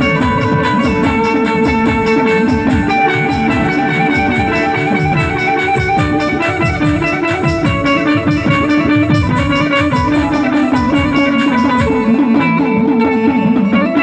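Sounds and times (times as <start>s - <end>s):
fast drum beat: 0.0s - 14.0s
keyed banjo melody: 0.0s - 14.0s.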